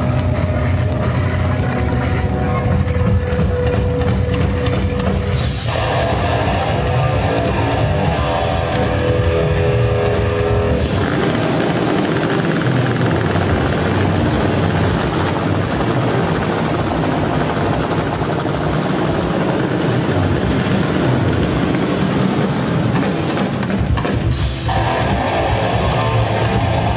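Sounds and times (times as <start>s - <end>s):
distorted electric guitar: 0.0s - 26.9s
motorcycle engines running: 0.0s - 26.9s.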